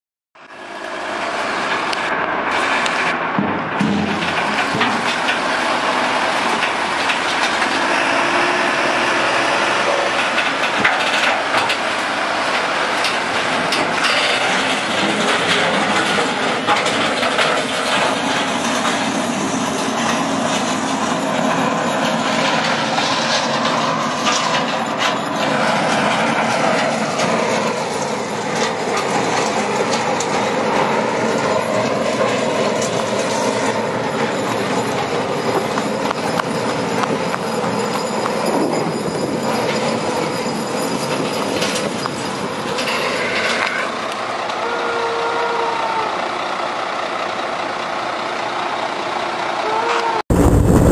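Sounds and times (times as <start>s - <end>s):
heavy diesel engine running: 0.4s - 50.9s
metal creaking and squealing: 3.8s - 46.2s.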